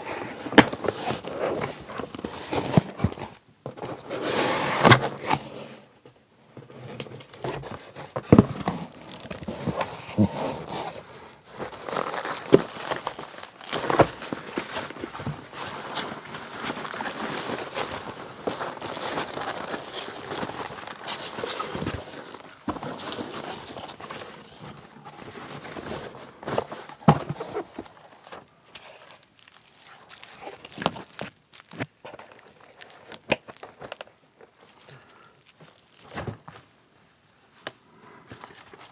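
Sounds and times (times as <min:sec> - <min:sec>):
wrapping crinkling and rustling: 0:00.0 - 0:05.5, 0:06.7 - 0:36.8, 0:38.2 - 0:38.9.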